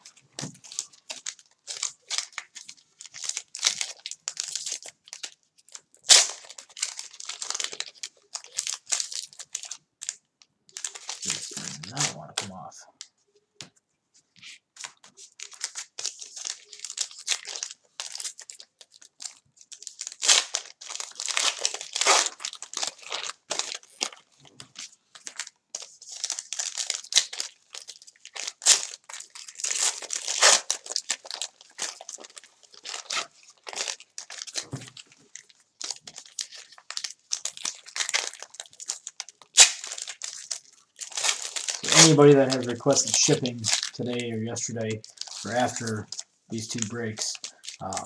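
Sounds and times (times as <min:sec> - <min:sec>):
plastic foil wrapper crinkling: 0:00.0 - 0:12.7, 0:14.4 - 0:48.0
plastic wrapper tearing: 0:00.0 - 0:12.7, 0:14.5 - 0:48.0.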